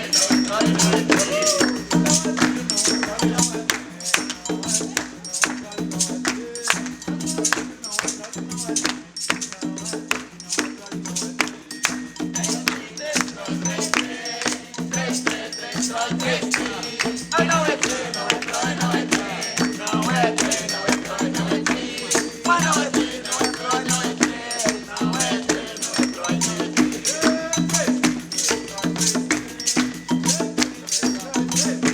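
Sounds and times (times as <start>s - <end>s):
shaker rattling: 0.0s - 31.9s
voices singing: 0.0s - 31.9s.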